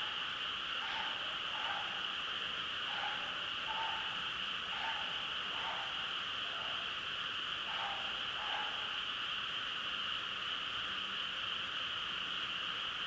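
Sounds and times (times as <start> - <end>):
frogs trilling: 0.0 - 12.8.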